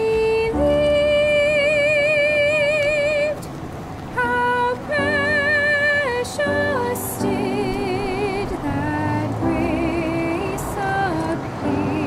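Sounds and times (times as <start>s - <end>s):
woman singing long note: 0.0s - 3.5s, 4.2s - 12.0s.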